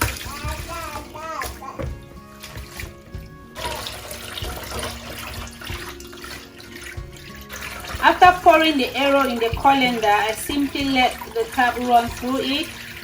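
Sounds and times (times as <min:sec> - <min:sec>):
background music: 0:00.0 - 0:13.0
tap water running into sink: 0:00.0 - 0:13.0.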